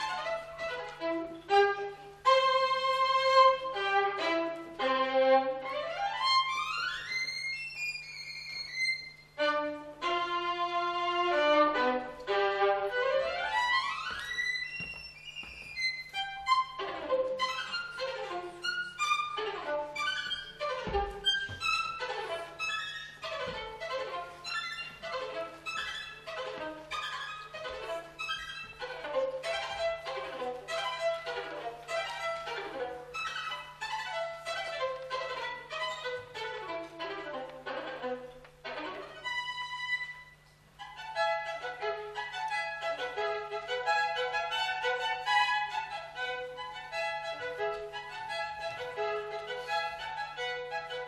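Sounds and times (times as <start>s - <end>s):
low electrical hum: 0.0s - 51.0s
solo violin playing: 0.0s - 51.0s.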